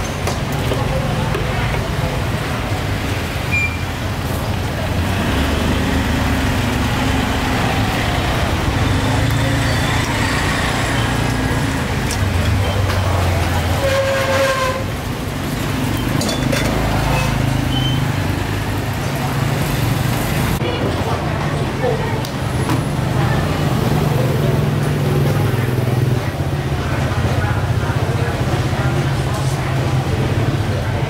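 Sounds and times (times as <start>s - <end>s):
vehicle engines running: 0.0s - 31.0s.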